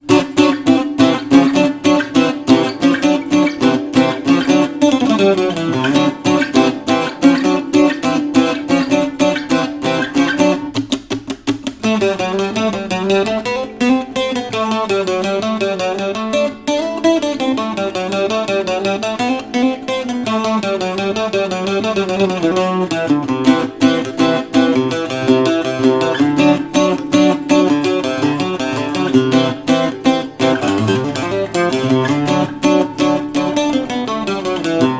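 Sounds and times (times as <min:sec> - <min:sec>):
guitar picked and strummed chords: 0:00.0 - 0:34.9.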